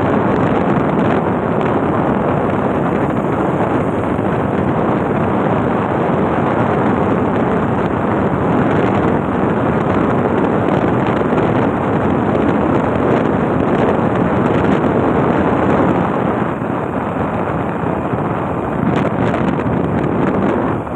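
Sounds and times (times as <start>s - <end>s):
road and engine noise: 0.0s - 20.9s
wind rushing on microphone: 0.0s - 20.9s.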